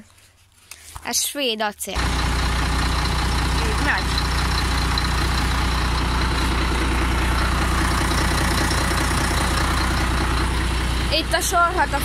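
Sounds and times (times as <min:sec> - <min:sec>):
diesel truck engine idling: 0:02.0 - 0:12.0.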